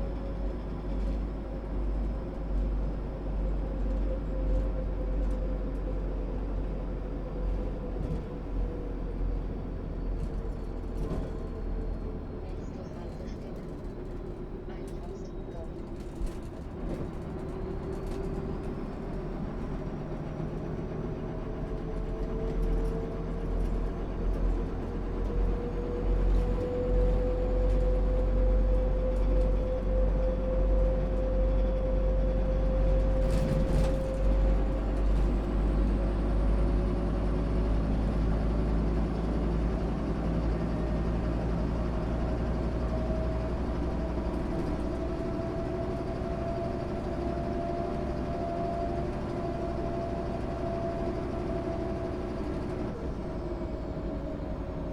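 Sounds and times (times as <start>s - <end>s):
bus diesel engine under load: 0.0s - 54.9s.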